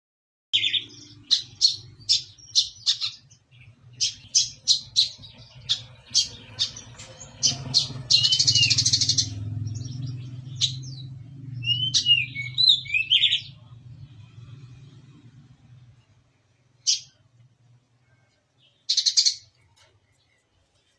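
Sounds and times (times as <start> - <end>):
bird singing in chirps and trills: 0.6 - 20.9.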